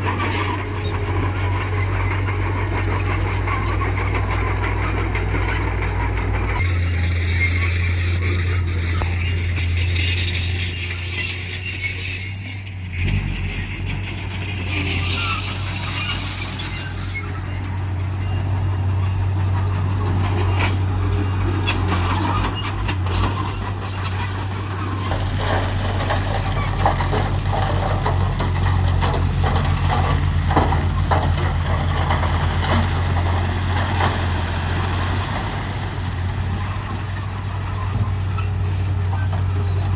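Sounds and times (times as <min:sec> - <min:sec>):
heavy diesel machinery drone: 0:00.0 - 0:39.9
metallic squeaks and clanks: 0:00.0 - 0:39.9.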